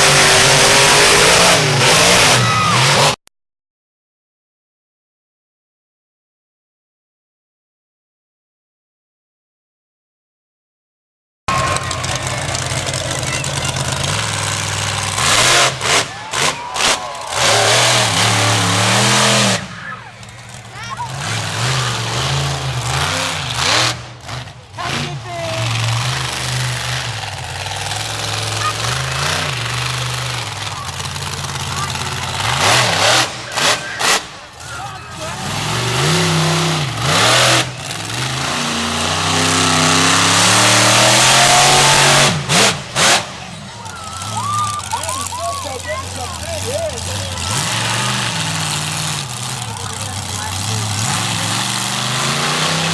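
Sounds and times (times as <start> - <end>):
truck engine revving: 0.0 - 3.2, 11.5 - 52.9.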